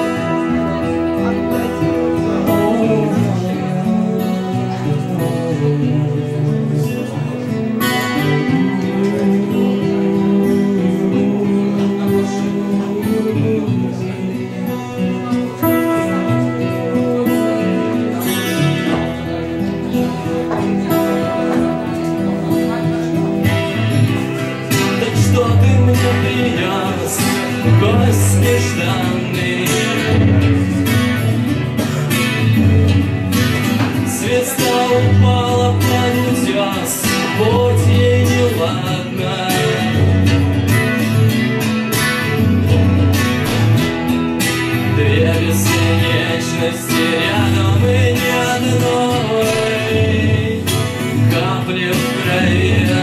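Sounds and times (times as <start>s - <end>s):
acoustic guitar strumming: 0.0s - 53.0s
man singing: 0.0s - 53.0s.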